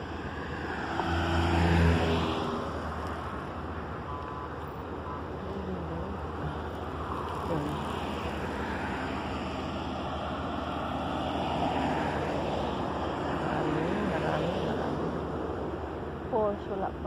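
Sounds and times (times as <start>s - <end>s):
boat engines droning: 0.0s - 17.0s.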